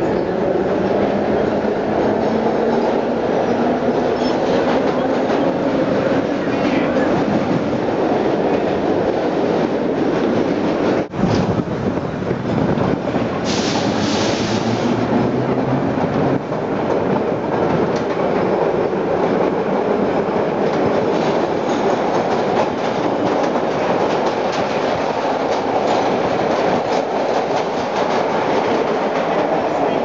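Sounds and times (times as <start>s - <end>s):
subway train rumbling: 0.0s - 30.0s.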